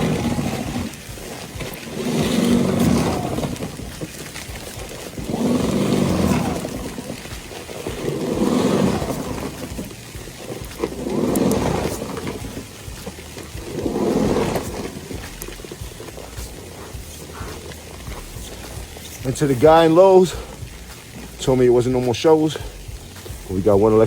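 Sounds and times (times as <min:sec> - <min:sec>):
electric snow shovel running: 0:00.0 - 0:24.0.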